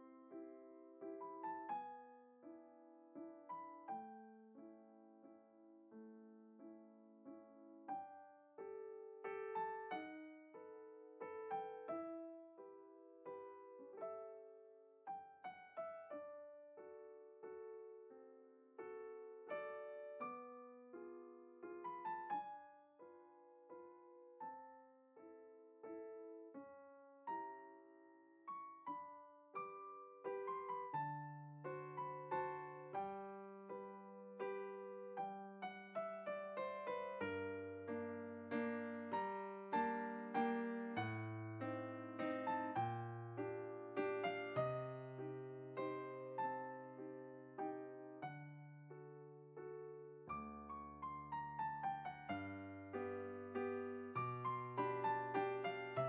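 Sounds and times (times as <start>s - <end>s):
soft solo piano music: 0.0s - 56.0s.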